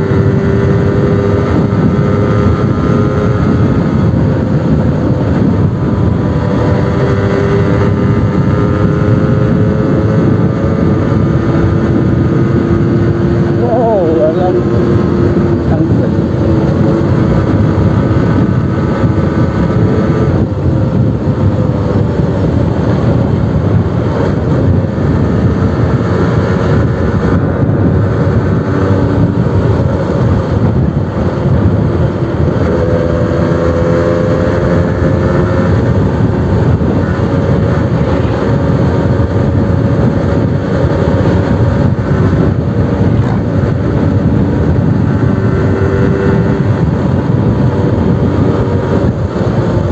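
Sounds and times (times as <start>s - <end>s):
loud steady rushing noise: 0.0s - 49.9s
two-stroke engine running: 0.0s - 49.9s.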